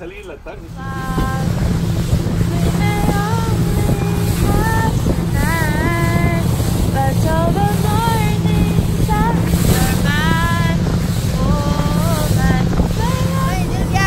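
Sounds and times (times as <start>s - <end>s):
motorboat engine running: 0.0s - 14.0s
wind buffeting microphone: 0.0s - 14.0s
woman singing: 0.8s - 1.6s, 2.4s - 14.0s.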